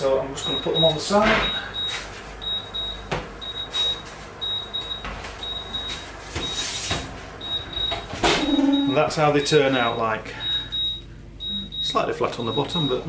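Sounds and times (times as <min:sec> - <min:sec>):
oven timer double beep: 0:00.4 - 0:06.6, 0:07.4 - 0:13.0.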